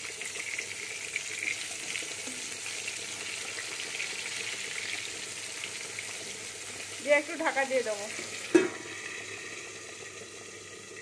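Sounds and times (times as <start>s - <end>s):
eggplant sizzling in hot oil: 0.0s - 11.0s.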